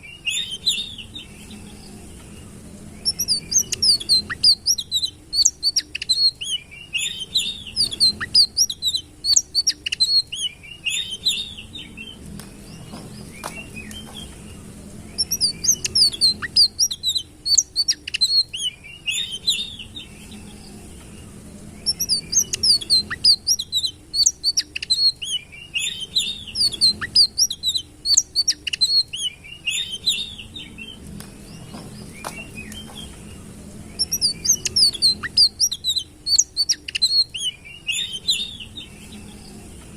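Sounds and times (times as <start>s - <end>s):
faint steady low hum: 0.0s - 39.9s
songbird chirping and twittering: 0.0s - 39.9s.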